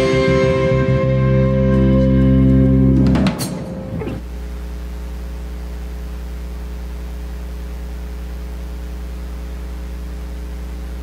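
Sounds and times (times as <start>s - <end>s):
electrical mains hum: 1.8s - 11.0s.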